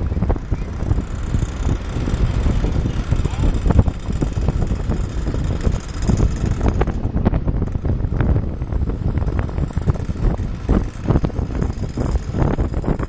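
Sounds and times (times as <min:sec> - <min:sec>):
knocks and rattles from road: 0:00.0 - 0:13.0
vehicle rumble: 0:00.0 - 0:13.0
wind buffeting microphone: 0:00.0 - 0:13.0.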